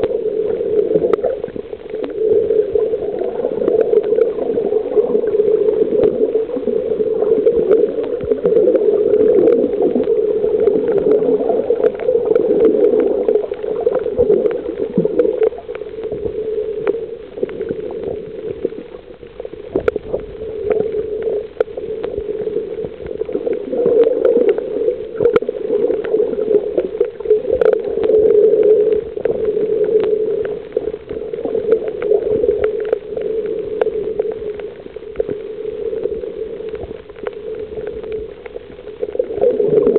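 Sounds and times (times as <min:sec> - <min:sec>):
underwater clicks and crackles: 0:00.0 - 0:39.9
underwater rushing of water: 0:00.0 - 0:39.9.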